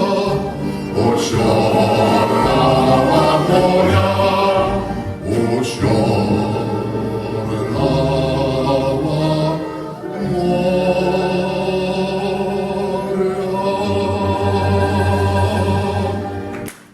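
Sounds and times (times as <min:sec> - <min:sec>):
sustained sung notes: 0:00.0 - 0:16.6
musical accompaniment: 0:00.0 - 0:16.9.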